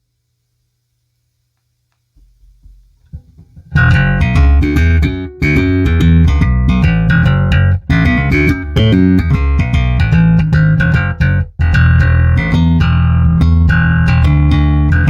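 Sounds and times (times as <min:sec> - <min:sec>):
plucked electric bass notes: 0:02.2 - 0:15.0.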